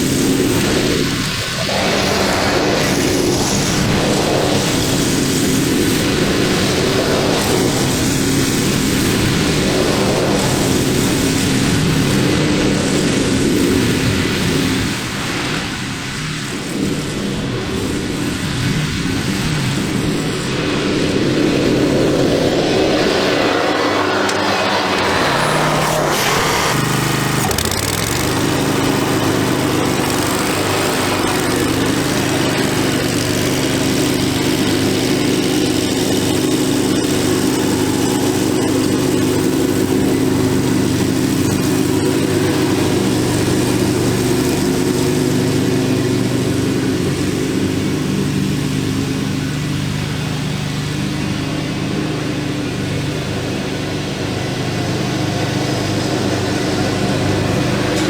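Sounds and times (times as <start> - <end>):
riding mower engine mowing: 0.0 - 58.0.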